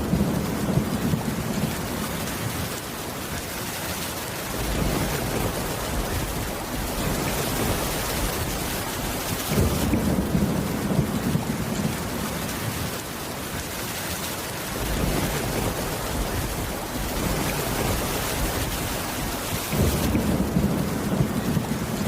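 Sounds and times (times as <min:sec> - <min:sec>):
low thunder rumbling: 0:00.0 - 0:02.8, 0:04.4 - 0:13.0, 0:14.6 - 0:22.0
rain pattering on a roof: 0:00.0 - 0:22.0.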